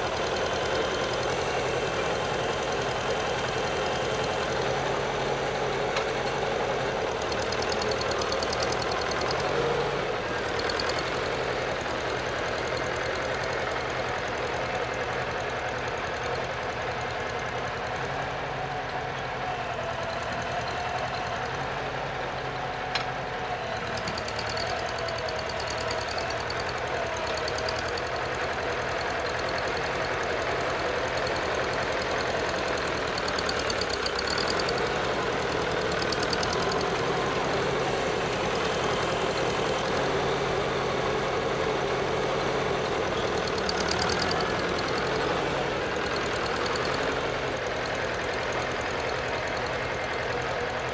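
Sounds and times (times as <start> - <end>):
tractor engine running under load: 0.0 - 50.9.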